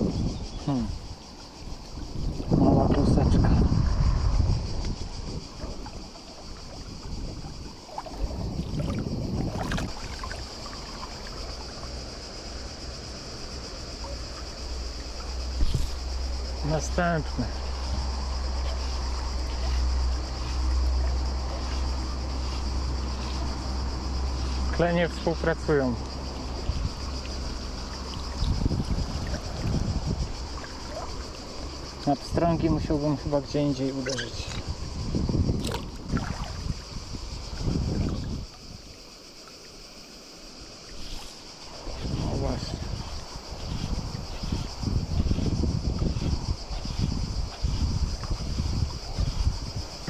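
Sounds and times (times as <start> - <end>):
wind rumbling on microphone: 0.0 - 39.4, 40.5 - 50.0
high insect buzz: 0.0 - 50.0
river water running: 0.0 - 50.0.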